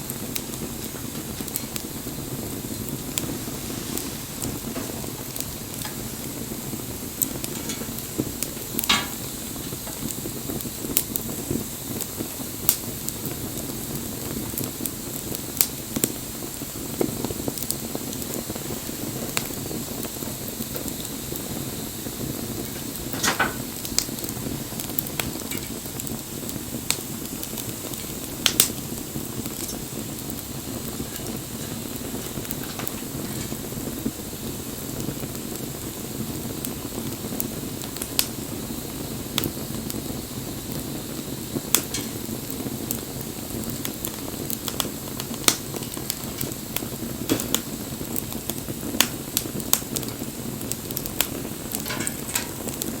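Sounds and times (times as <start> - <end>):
campfire burning: 0.0 - 53.0
fire crackles and pops: 0.0 - 53.0.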